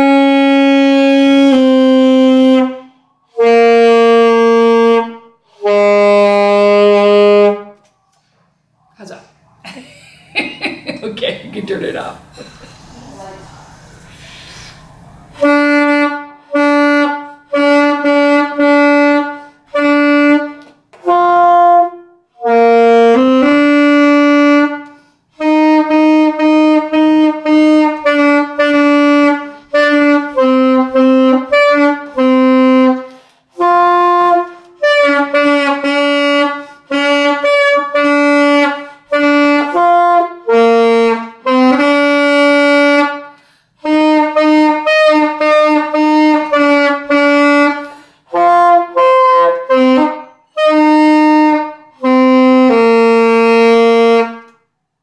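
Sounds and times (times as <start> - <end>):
alto saxophone solo: 0.0 - 7.8, 12.8 - 54.7.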